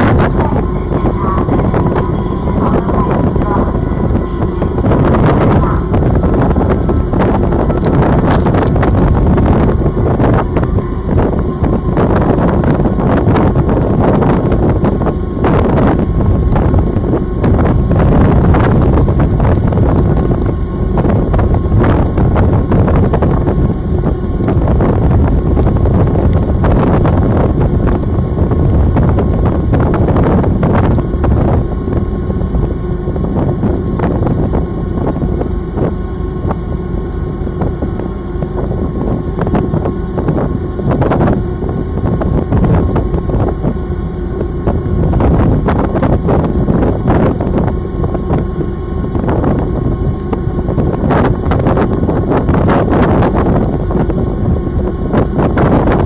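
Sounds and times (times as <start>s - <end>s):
ship engines running: 0.0s - 56.0s
wind buffeting microphone: 0.0s - 56.0s.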